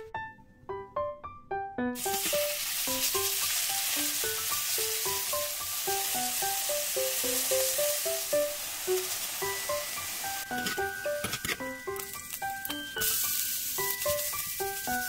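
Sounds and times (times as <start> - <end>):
light melodic background music: 0.0 - 15.0
chicken sizzling in hot oil: 2.0 - 15.0.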